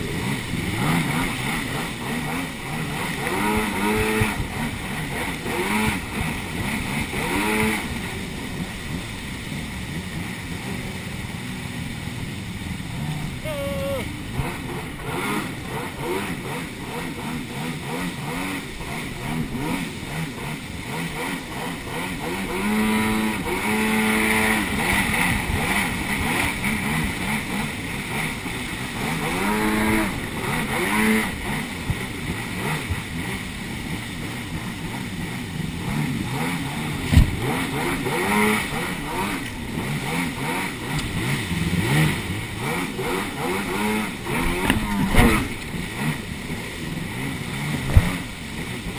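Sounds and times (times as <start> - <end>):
jet ski engines revving: 0.0 - 48.9.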